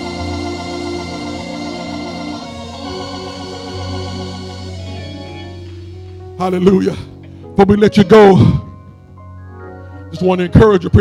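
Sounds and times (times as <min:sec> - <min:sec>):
organ playing held chords: 0:00.0 - 0:11.0.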